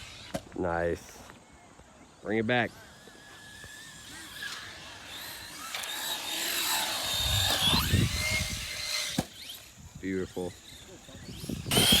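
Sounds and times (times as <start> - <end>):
rc car motor whining: 0.0 - 1.4, 2.3 - 12.0.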